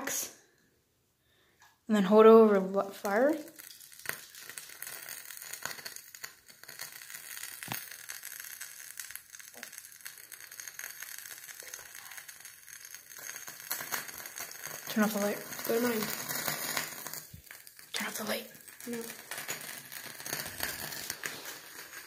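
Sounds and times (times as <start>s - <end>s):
wax crackling and popping in flame: 2.1s - 22.0s.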